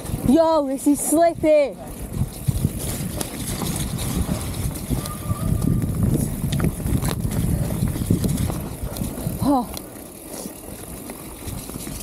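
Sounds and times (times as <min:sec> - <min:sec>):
bike tyres rumbling on dirt: 0:00.0 - 0:12.0
wind buffeting microphone: 0:00.0 - 0:12.0
bike clicks and knocks: 0:01.9 - 0:12.0.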